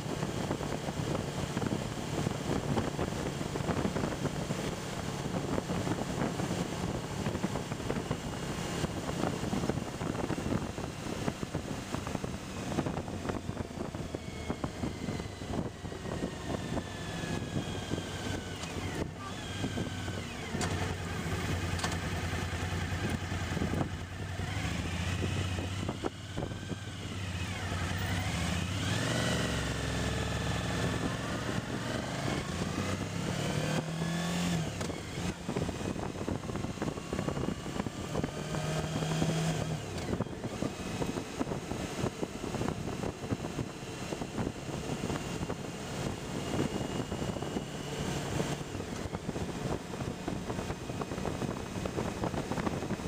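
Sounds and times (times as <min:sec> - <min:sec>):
wind rush over microphone: 0:00.0 - 0:21.7, 0:22.3 - 0:53.0
motorcycle engine running: 0:00.0 - 0:53.0.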